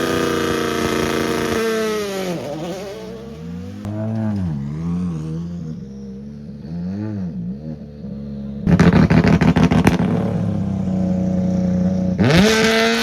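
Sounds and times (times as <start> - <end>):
exhaust cracks: 0.0 - 13.0
rally car engine revving: 0.0 - 13.0.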